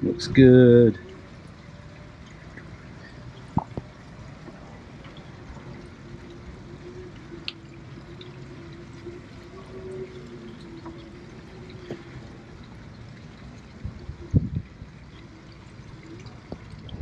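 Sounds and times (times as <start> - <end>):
low steady hum: 0.0 - 17.0
water lapping against a hull: 0.0 - 17.0.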